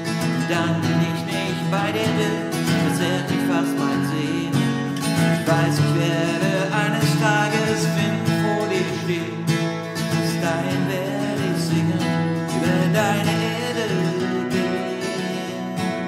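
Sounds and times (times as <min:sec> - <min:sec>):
acoustic guitar: 0:00.0 - 0:16.0.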